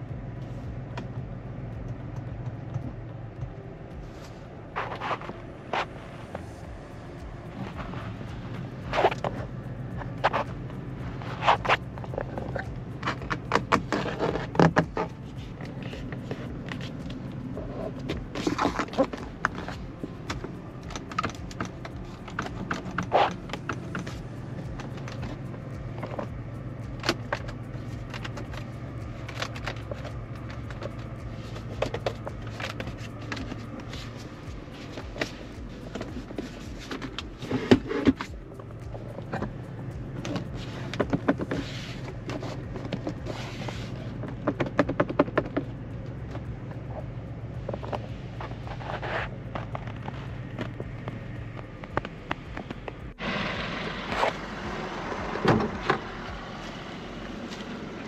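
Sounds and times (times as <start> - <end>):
car engine and road drone: 0.0 - 58.0
knocks and clicks: 4.8 - 53.2.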